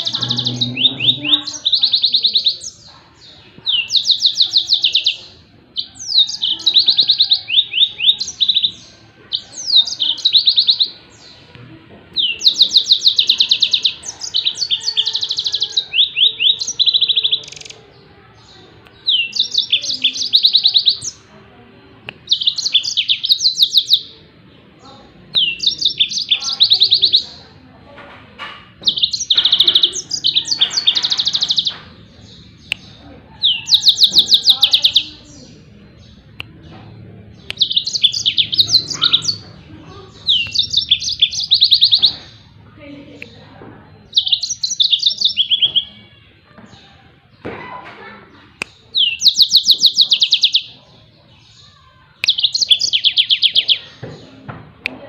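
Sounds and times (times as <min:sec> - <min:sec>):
canary singing fast trills: 0:00.0 - 0:11.5, 0:12.1 - 0:21.3, 0:22.0 - 0:27.5, 0:28.7 - 0:47.4, 0:48.5 - 0:54.3.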